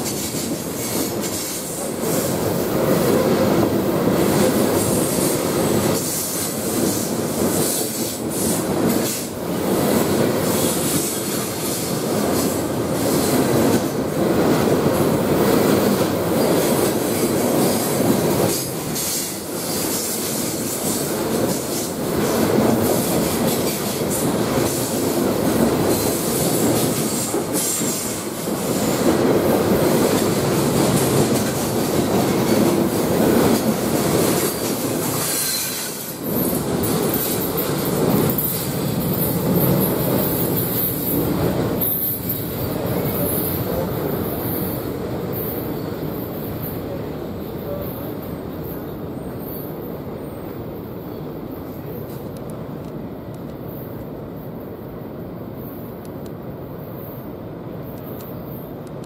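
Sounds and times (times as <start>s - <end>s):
train cars rumbling past: 0.0s - 52.2s.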